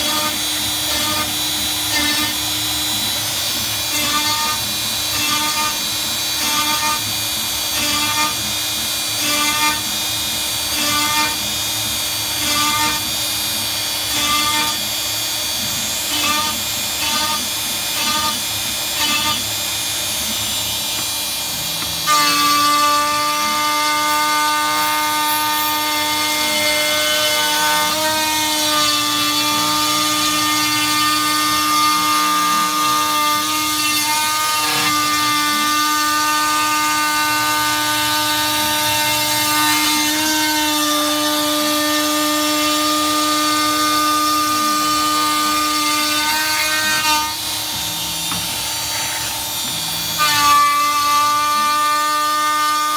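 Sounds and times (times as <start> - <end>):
router spindle cutting wood: 0.0 - 52.9
shop vacuum running: 0.0 - 52.9.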